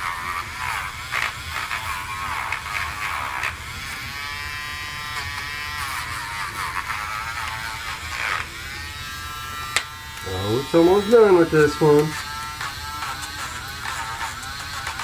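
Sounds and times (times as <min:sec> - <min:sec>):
nail grinder motor whine: 0:00.0 - 0:15.0.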